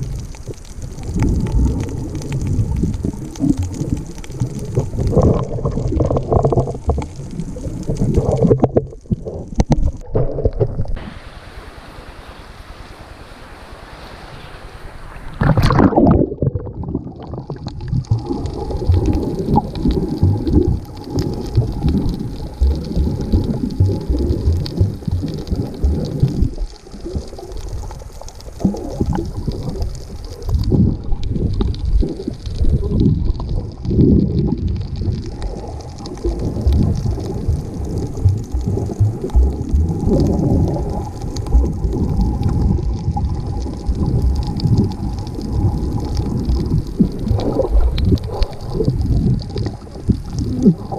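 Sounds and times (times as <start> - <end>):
underwater rumbling and gurgling: 0.0 - 11.5, 14.9 - 50.9
wind and surf: 0.0 - 50.9.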